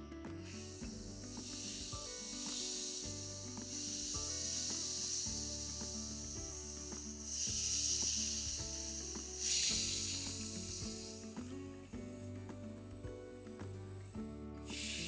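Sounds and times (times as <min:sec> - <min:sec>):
background music: 0:00.0 - 0:15.0
gas hissing from bottle: 0:00.4 - 0:15.0.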